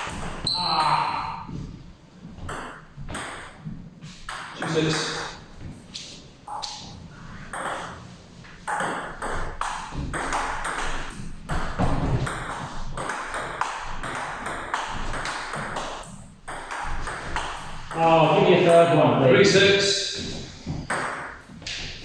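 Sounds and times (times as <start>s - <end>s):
table tennis ball hits: 0.0s - 1.6s, 2.4s - 5.4s, 6.5s - 8.0s, 8.6s - 18.9s, 20.3s - 22.0s.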